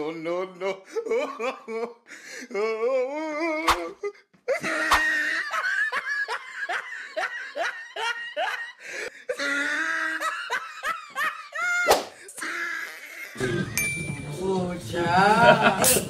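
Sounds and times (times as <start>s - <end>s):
person laughing heartily: 0.8s - 13.7s, 15.2s - 16.0s.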